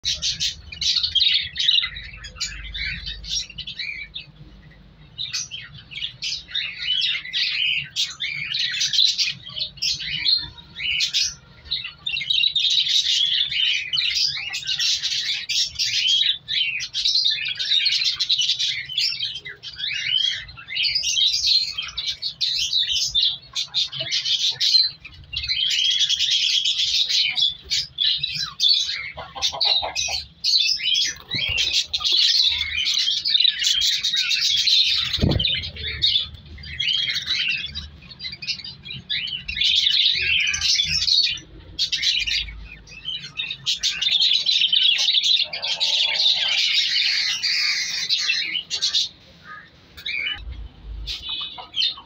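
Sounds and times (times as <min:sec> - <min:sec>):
budgerigars chirping: 0:00.0 - 0:52.0.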